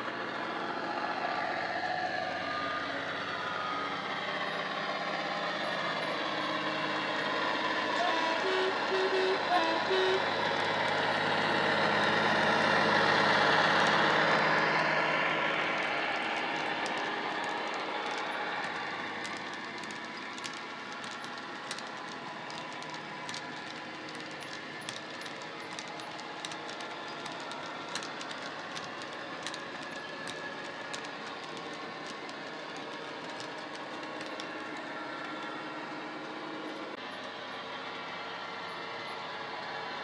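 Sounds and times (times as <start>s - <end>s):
model locomotive diesel engine sound: 0.0s - 40.0s
model wheels clicking over track joints: 0.1s - 37.6s.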